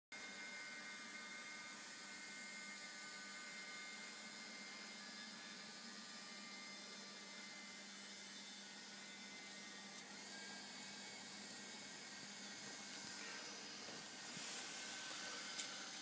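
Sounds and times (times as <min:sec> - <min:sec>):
small electric motor whining: 0:00.2 - 0:16.0.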